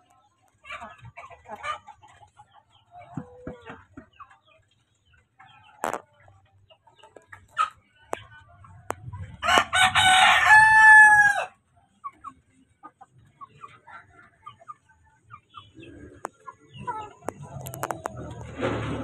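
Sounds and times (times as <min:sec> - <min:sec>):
soft chicken clucks: 0:00.0 - 0:18.6.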